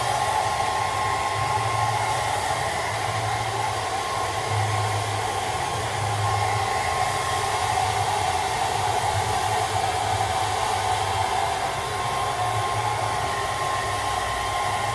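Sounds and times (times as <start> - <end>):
hairdryer blowing air: 0.0 - 14.9.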